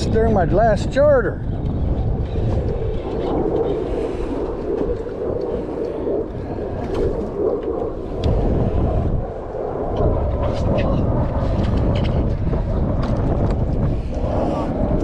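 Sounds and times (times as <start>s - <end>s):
low rumble of boat: 0.0s - 15.0s
wind buffeting microphone: 0.0s - 15.0s.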